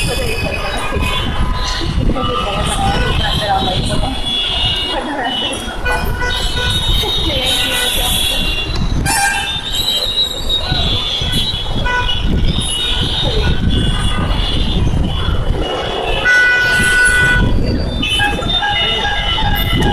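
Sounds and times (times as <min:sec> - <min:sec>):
engine rumble of traffic: 0:00.0 - 0:19.9
vehicle horns honking: 0:00.0 - 0:19.9.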